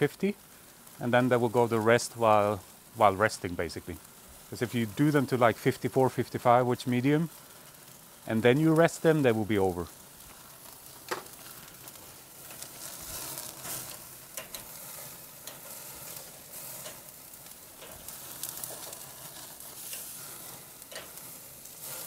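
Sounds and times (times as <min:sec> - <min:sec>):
crackles and pops of flames: 0:00.0 - 0:22.0
steaks sizzling on a grill: 0:00.0 - 0:22.0.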